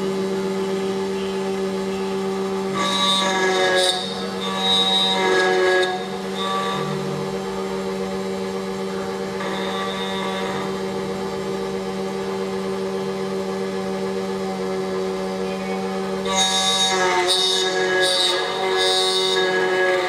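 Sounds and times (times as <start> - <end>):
key cutting machine whine: 0.0 - 20.0.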